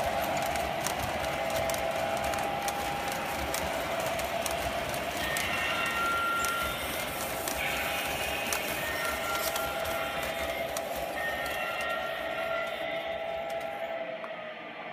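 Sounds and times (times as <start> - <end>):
model train cars rolling: 0.0 - 14.0
wheels clicking over rail joints: 0.0 - 14.0.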